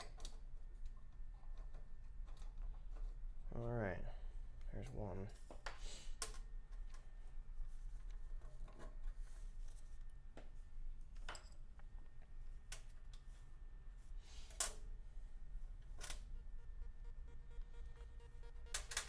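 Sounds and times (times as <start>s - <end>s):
faint low hum: 0.1s - 19.0s.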